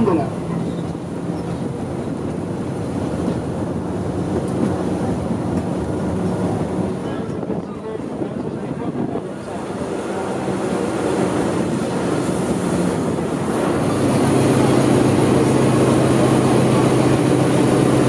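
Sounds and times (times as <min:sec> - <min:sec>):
low engine hum: 0:00.0 - 0:18.0
train rumble and rattle: 0:00.0 - 0:18.0.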